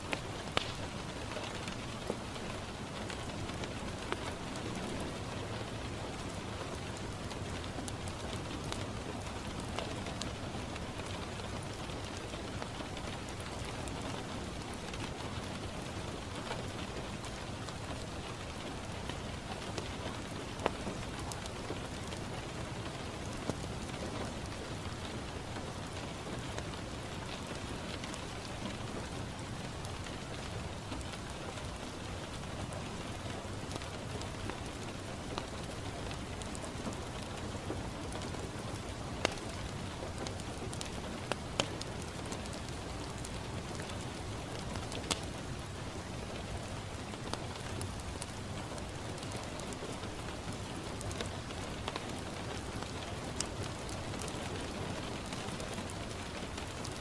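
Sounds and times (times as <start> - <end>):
rain pattering on window: 0.0 - 57.0
wood fire popping: 0.1 - 57.0.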